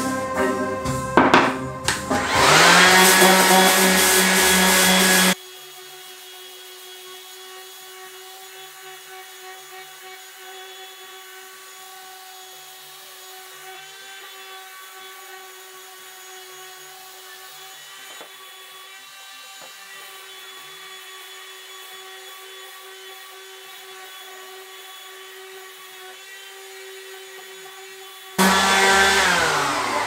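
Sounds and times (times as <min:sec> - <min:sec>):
orbital sander on wood: 0:01.3 - 0:30.0.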